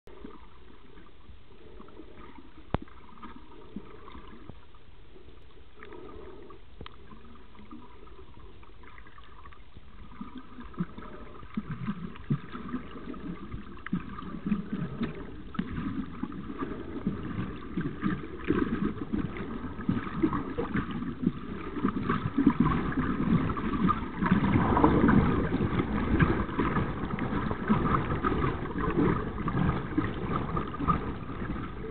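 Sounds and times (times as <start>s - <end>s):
crackling rumble of stirred water: 0.0s - 31.9s
muffled underwater water hiss: 0.1s - 31.9s.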